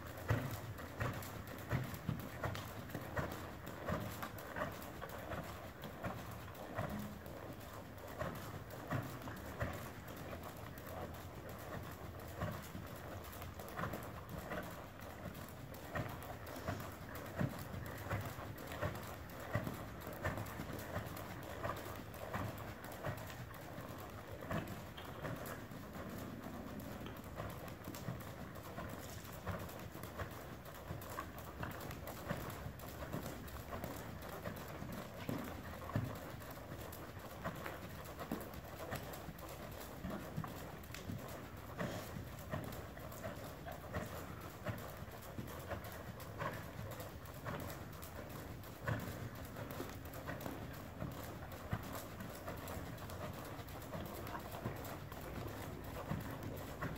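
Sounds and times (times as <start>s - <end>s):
horse hoofbeats trotting on sand: 0.0s - 56.9s.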